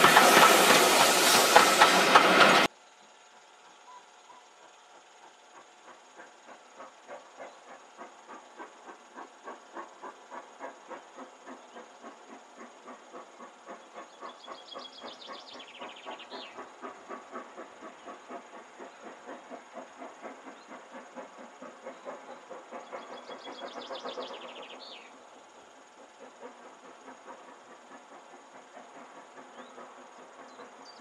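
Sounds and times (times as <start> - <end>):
steam locomotive exhaust beats: 0.0 - 31.0.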